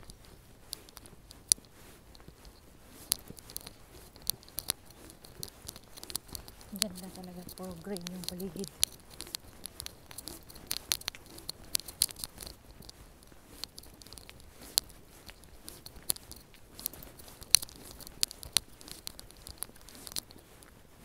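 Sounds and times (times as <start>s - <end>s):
footsteps crunching on asphalt: 0.0s - 21.0s.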